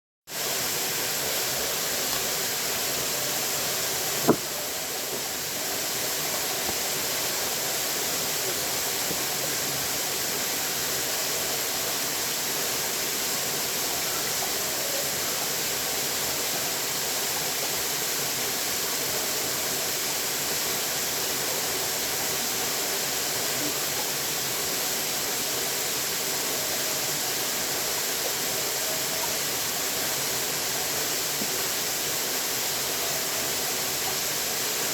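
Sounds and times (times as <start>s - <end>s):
running water rushing: 0.3s - 34.9s.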